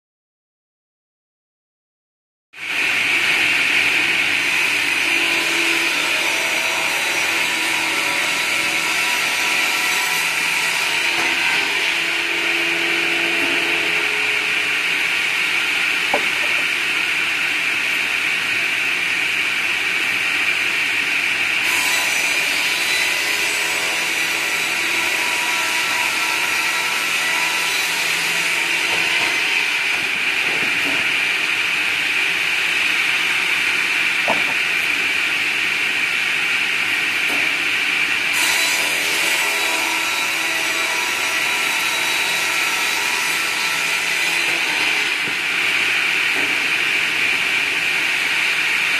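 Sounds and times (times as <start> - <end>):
circular saw cutting a log: 2.8 - 18.7, 21.5 - 48.9.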